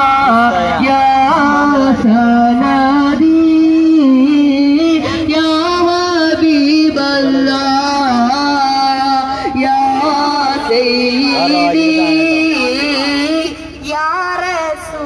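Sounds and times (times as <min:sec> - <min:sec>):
devotional song over loudspeakers: 0:00.0 - 0:15.0.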